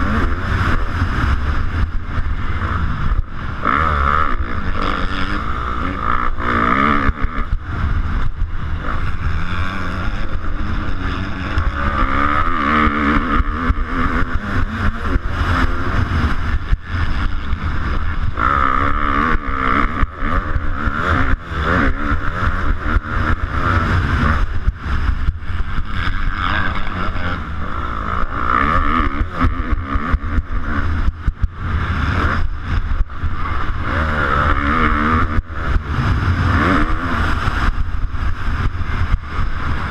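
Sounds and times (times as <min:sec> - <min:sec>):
motocross bike engine revving: 0:00.0 - 0:39.9
wind rushing on microphone: 0:00.0 - 0:39.9.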